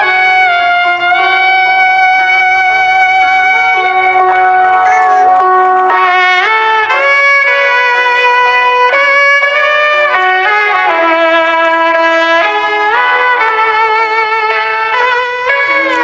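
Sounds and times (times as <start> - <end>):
slow melody of sustained notes: 0.0 - 16.0.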